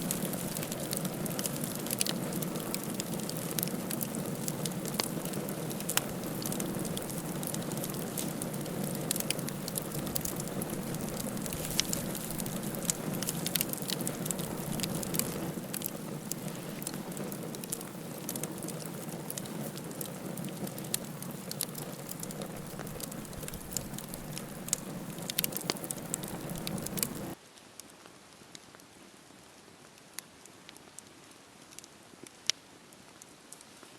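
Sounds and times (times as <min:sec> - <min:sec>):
hiss of flames: 0:00.0 - 0:27.4
burning wood crackling and popping: 0:00.0 - 0:28.9, 0:29.8 - 0:33.9.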